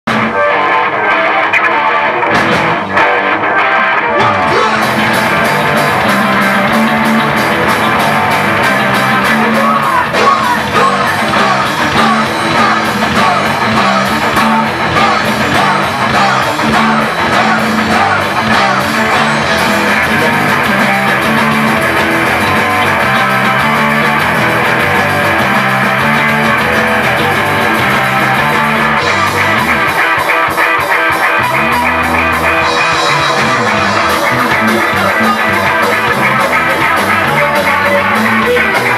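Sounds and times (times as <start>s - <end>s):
electric guitars: 0.0s - 38.9s
drum kit: 0.1s - 38.9s
live rock band playing: 0.1s - 38.9s.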